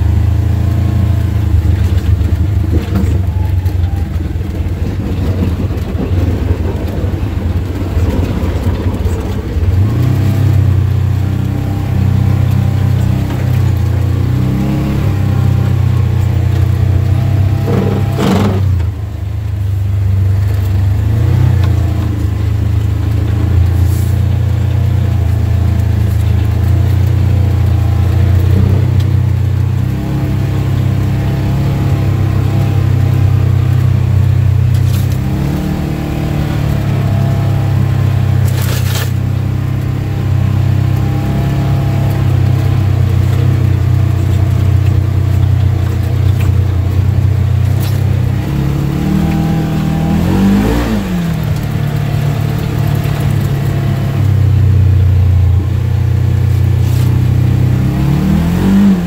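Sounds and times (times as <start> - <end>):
utility vehicle engine running: 0.0 - 59.0.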